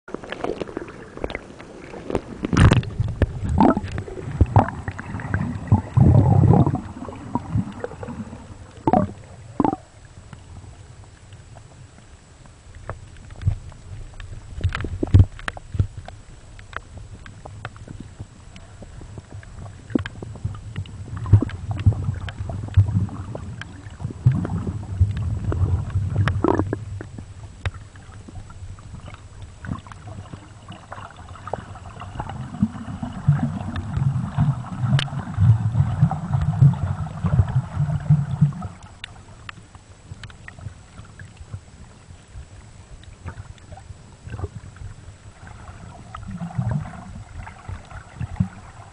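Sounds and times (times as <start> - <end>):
low rumble of water: 0.0 - 48.9
underwater clicks and crackles: 0.1 - 48.9.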